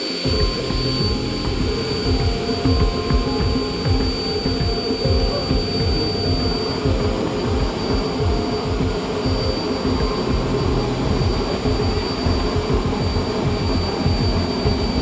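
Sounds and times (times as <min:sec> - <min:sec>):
jet engine combustion roar: 0:00.0 - 0:15.0
steady high whine: 0:00.0 - 0:15.0.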